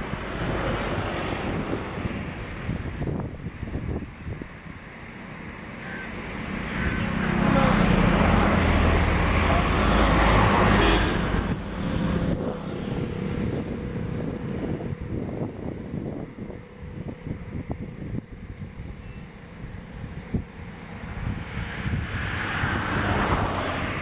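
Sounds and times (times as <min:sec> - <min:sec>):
passing traffic engine noise: 0:00.0 - 0:24.0
wind rumble on microphone: 0:00.0 - 0:24.0.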